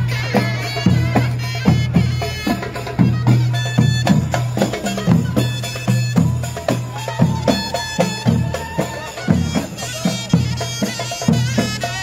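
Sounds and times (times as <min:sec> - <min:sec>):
wavering reed-pipe melody: 0:00.0 - 0:12.0.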